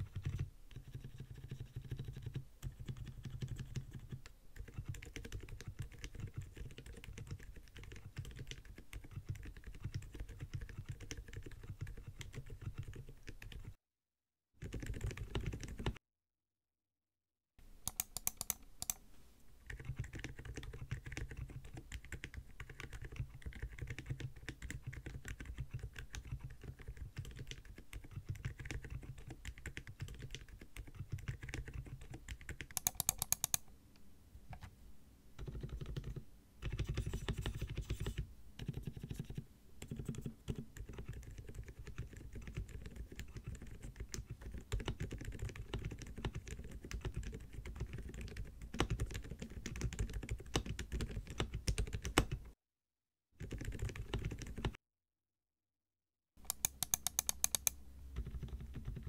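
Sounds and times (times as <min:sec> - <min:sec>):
soft mechanical keyboard typing: 0:00.0 - 0:13.8, 0:14.6 - 0:16.0, 0:17.8 - 0:19.0, 0:19.6 - 0:33.7, 0:35.4 - 0:52.5, 0:53.4 - 0:54.8, 0:56.4 - 0:59.0.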